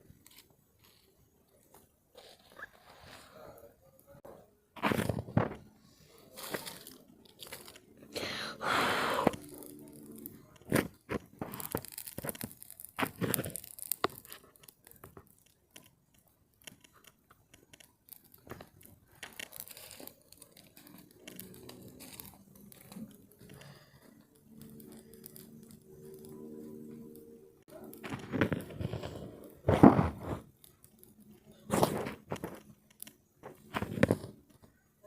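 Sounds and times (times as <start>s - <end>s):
dry wood snapping and crackling: 0.0s - 4.1s, 4.8s - 34.9s.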